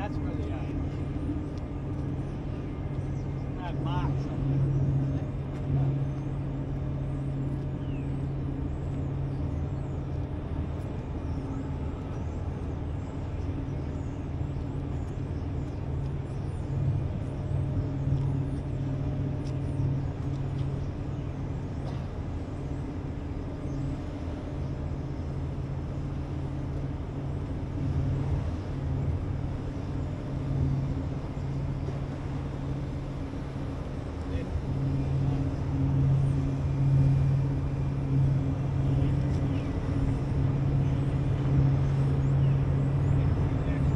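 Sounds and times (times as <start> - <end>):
ship diesel engines droning: 0.0 - 43.9.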